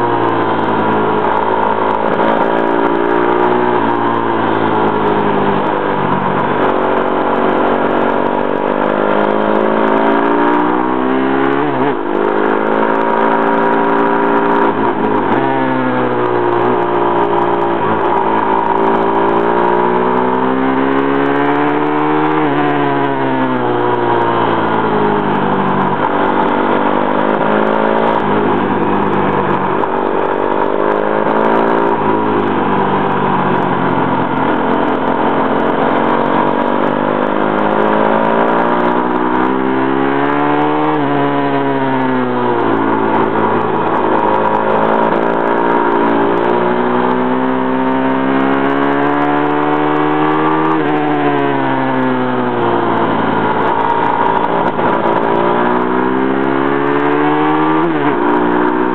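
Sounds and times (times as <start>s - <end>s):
pit bike engine revving: 0.0s - 58.9s.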